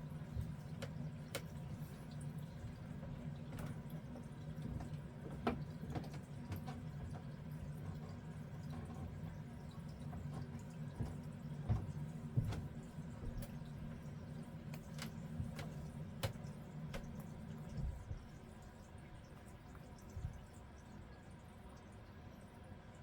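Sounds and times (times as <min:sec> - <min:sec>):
small clicks and drip-like pops: 0:00.0 - 0:22.6.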